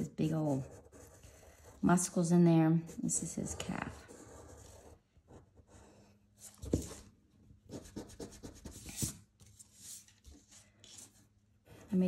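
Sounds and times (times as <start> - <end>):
pencil scratching on paper: 0.0 - 7.1, 7.7 - 12.0.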